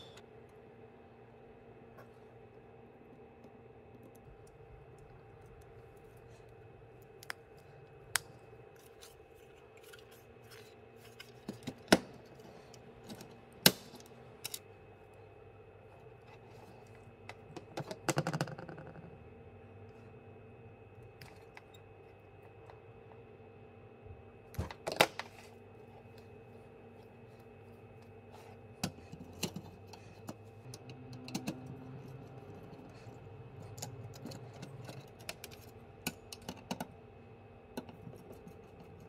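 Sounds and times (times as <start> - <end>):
faint electrical hum: 0.0 - 39.0.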